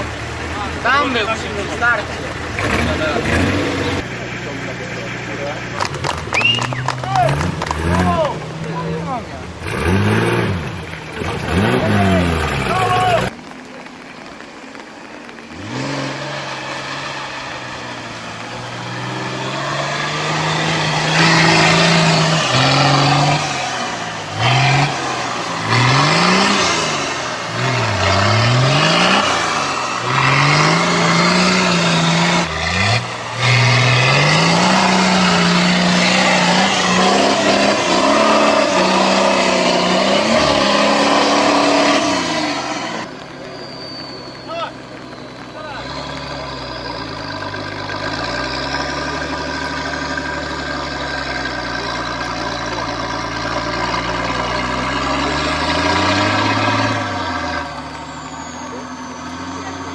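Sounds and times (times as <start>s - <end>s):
engine revving hard: 0.8s - 13.3s, 15.6s - 43.2s, 44.4s - 59.9s.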